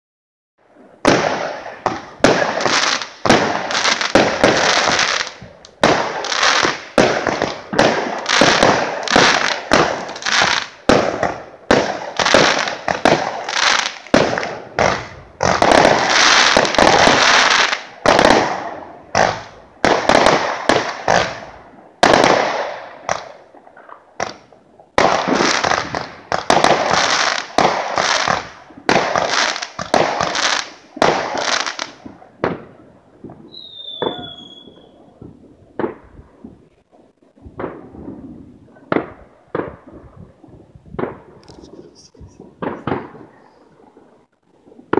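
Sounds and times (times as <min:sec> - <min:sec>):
fireworks bangs: 0:00.8 - 0:44.9
fireworks crackling: 0:00.8 - 0:44.9.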